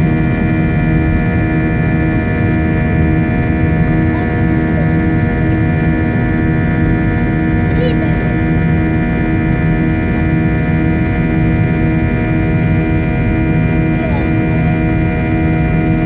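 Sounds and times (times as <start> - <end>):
jet engine cabin drone: 0.0 - 16.0.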